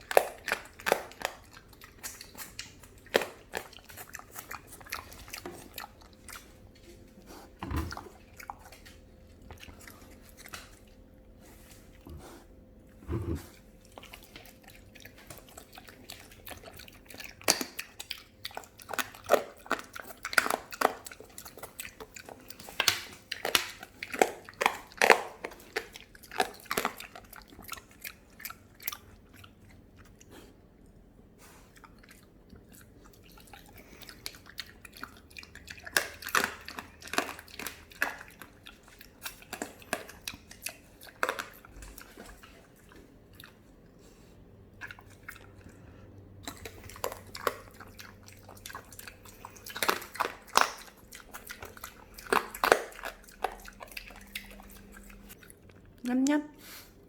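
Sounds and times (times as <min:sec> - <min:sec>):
pig chewing wetly: 0:00.0 - 0:57.0.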